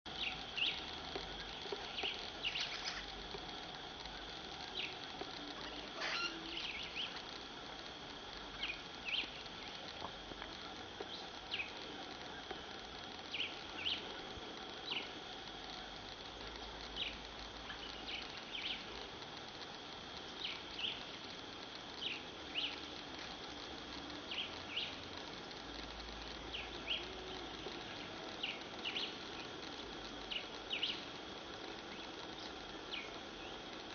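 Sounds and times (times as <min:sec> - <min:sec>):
high-pitched insect trill: 0:00.1 - 0:33.9.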